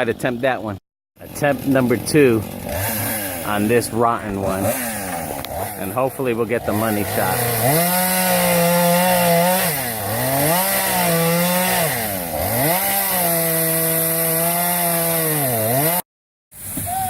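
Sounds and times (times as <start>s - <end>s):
chainsaw cutting wood: 1.2s - 16.0s.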